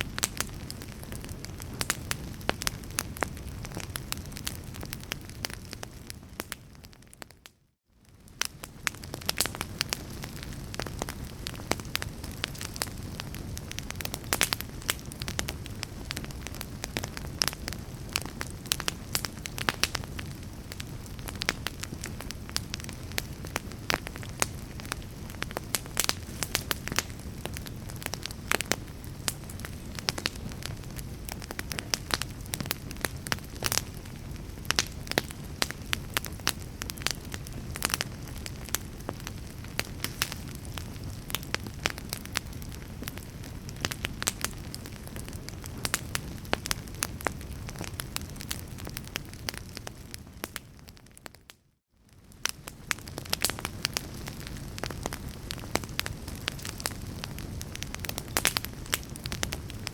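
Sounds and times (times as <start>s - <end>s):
fire pops and snaps: 0.0s - 51.5s, 52.1s - 59.9s
wood fire crackling: 0.0s - 59.9s.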